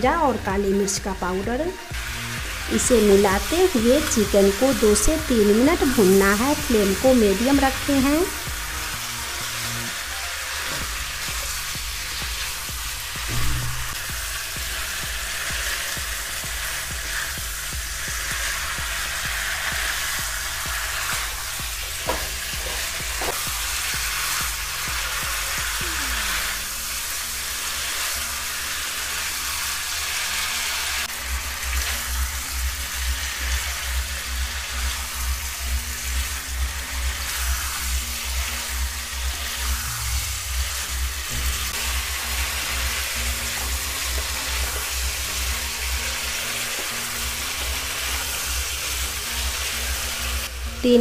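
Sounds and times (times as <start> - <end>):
background music with low beat: 0.0 - 27.4, 31.1 - 51.0
chicken sizzling and frying: 0.0 - 51.0.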